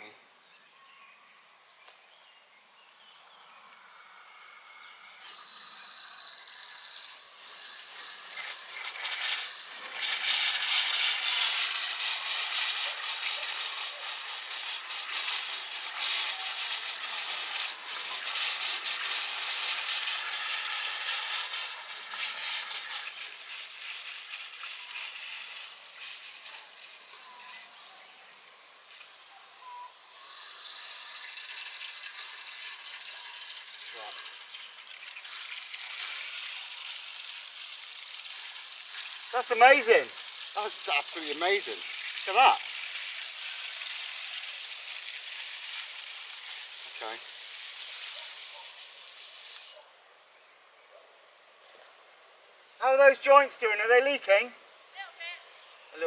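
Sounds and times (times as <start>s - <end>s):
faint insect trill: 0.0s - 56.0s
shower water spraying: 3.4s - 49.8s.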